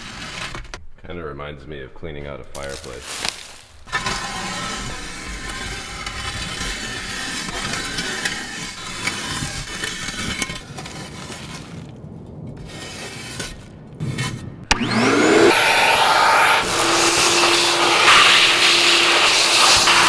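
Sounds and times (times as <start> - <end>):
plastic dustpan scraping dirt: 2.6 - 20.0.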